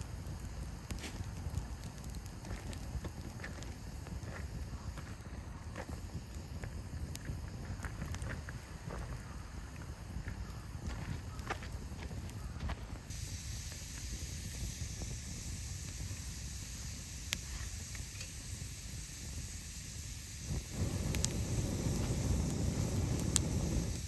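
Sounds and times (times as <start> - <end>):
campfire hissing and crackling: 0.0 - 24.0.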